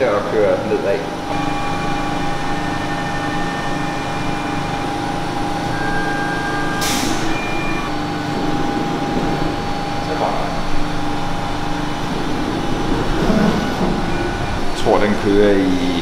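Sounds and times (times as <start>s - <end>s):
machine hum: 0.0s - 16.0s
whining motor tones: 0.5s - 16.0s.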